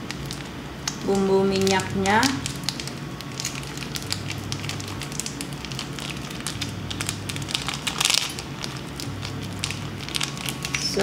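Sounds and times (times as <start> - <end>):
low steady hum: 0.0 - 11.0
plastic sachet crinkling: 0.0 - 11.0.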